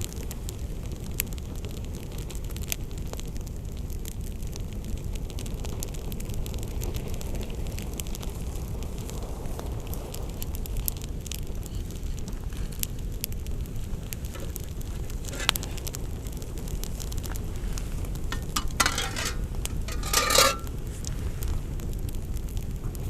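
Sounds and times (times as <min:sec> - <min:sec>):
burning wood crackling and popping: 0:00.0 - 0:23.0
campfire flame rumble: 0:00.0 - 0:23.0.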